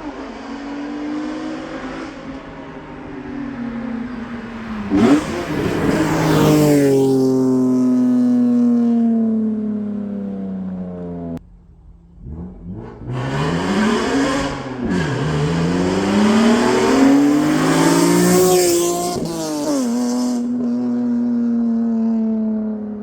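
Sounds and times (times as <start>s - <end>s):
car engine revving: 0.0s - 22.4s.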